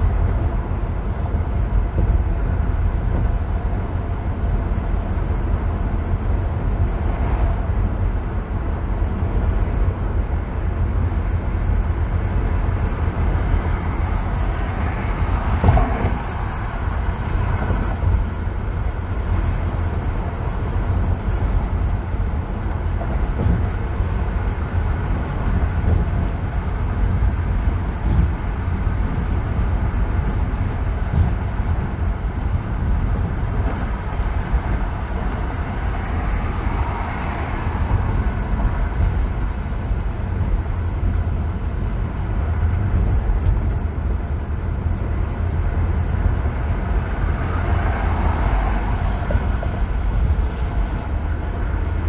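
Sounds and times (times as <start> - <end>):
tyre and engine rumble: 0.0 - 52.0.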